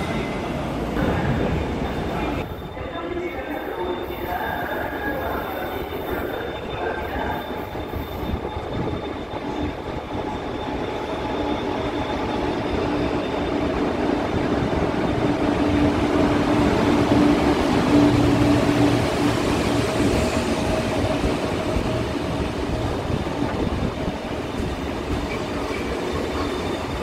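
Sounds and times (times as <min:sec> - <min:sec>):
steady train tone: 0:00.0 - 0:27.0
train rolling rumble: 0:03.7 - 0:27.0.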